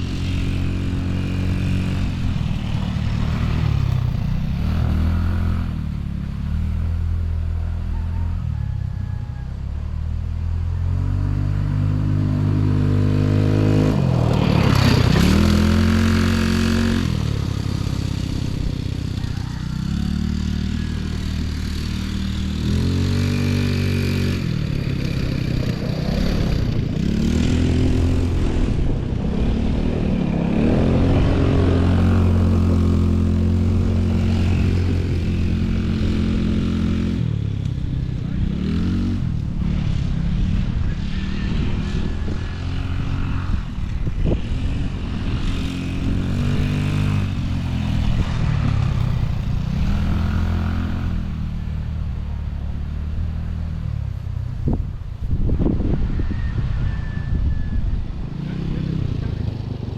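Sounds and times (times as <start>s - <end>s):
dirt bike engine accelerating: 0.0s - 59.9s.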